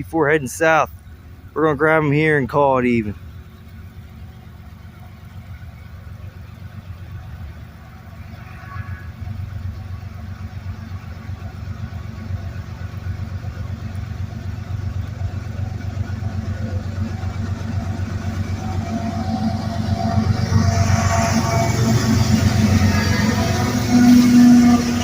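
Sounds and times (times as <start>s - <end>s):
locomotive engine rumble: 0.0s - 25.0s.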